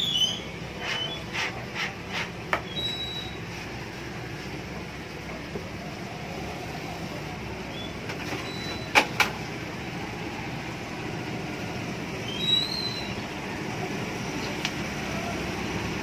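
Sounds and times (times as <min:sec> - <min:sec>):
street market background noise: 0:00.0 - 0:16.0.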